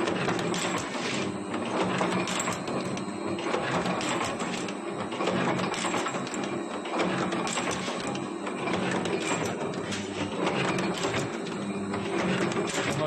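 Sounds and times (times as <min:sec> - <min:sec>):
machine clicks and clanks: 0:00.0 - 0:13.0
welding machine mechanical clatter: 0:00.0 - 0:13.0.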